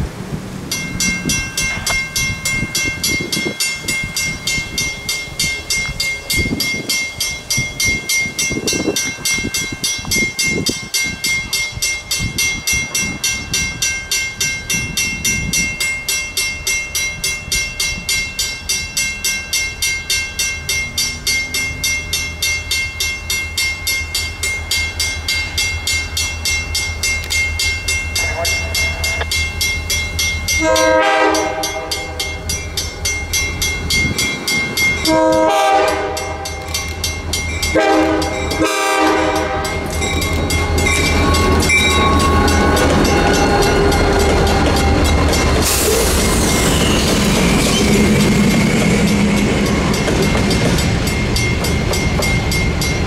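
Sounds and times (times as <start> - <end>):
railroad crossing bell ringing: 0.7 - 53.0.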